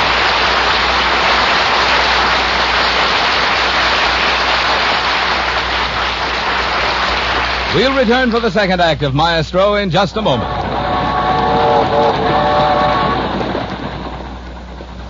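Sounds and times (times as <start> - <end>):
audience applauding: 0.0 - 9.0, 10.2 - 15.0.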